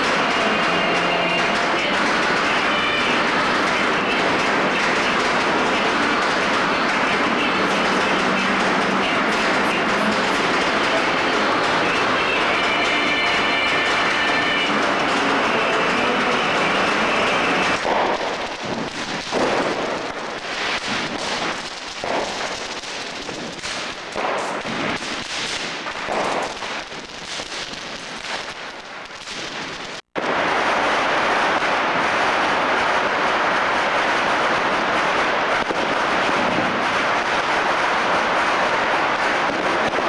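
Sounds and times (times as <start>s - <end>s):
firecrackers crackling: 0.0s - 40.0s
fireworks bangs: 0.0s - 40.0s.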